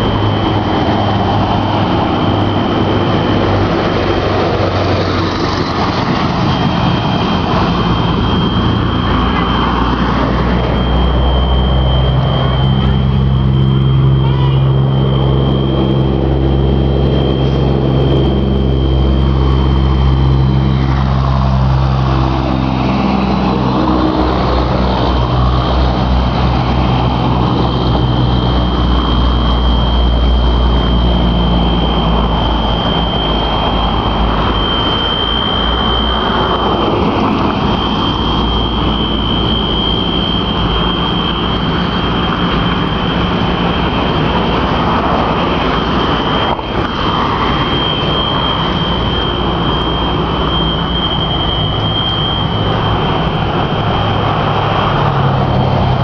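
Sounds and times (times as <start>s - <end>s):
heavy vehicle engine: 0.0s - 56.0s
high-pitched alarm tone: 0.0s - 56.0s
passing cars: 0.0s - 56.0s.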